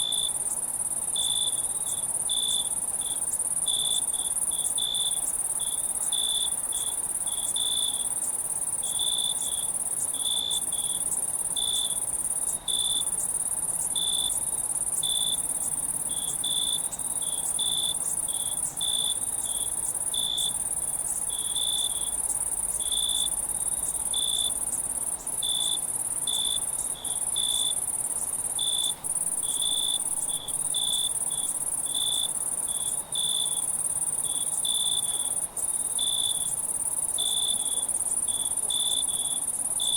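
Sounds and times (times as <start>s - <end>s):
crickets chirping: 0.0s - 39.9s
high-pitched insect trill: 0.0s - 39.9s.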